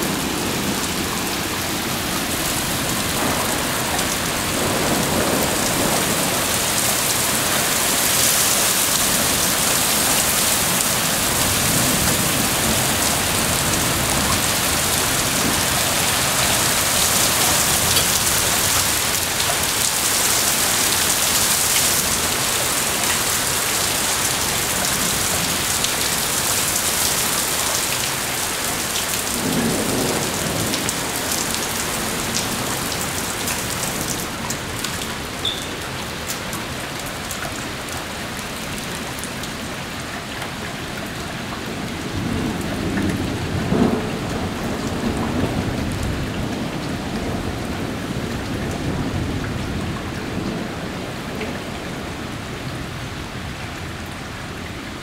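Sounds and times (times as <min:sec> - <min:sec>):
heavy rain on concrete: 0:00.0 - 0:55.0.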